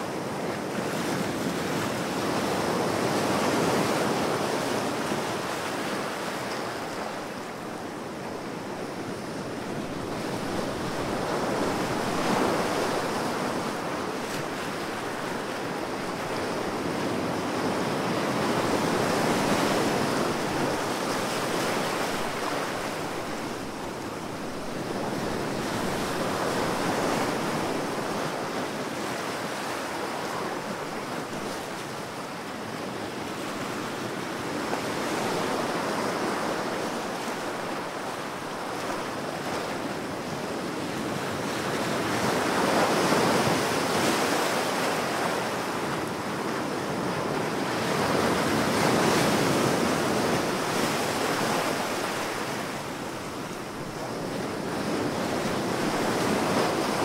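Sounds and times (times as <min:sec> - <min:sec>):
ocean waves surf: 0:00.0 - 0:57.0.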